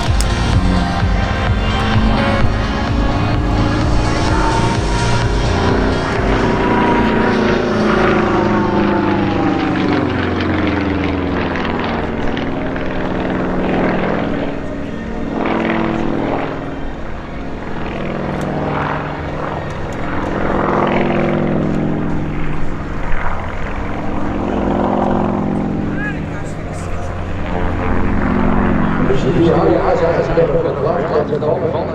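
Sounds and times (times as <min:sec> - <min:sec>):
propeller plane radial engine: 0:00.0 - 0:31.9.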